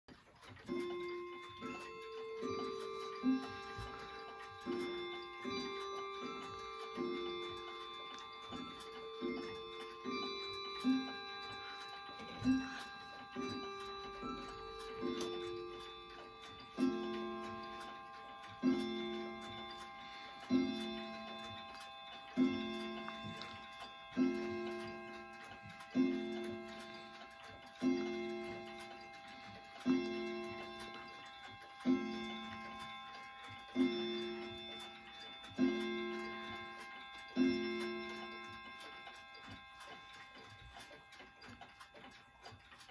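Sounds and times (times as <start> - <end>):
pendulum ticking: 0.1 - 42.9
wall clock striking: 0.1 - 42.9.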